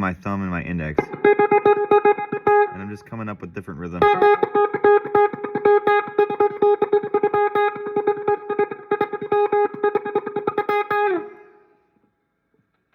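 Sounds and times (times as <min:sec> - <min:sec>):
guitar plucking one note: 0:00.8 - 0:11.6.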